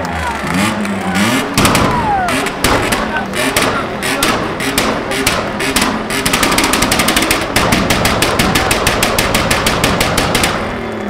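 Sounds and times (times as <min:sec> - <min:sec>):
car engine on rev limiter: 0:00.0 - 0:09.4.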